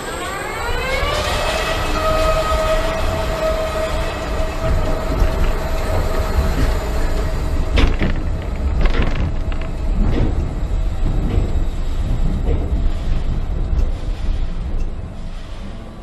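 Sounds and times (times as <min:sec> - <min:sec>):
roller coaster wheels rumbling: 0:00.0 - 0:16.0.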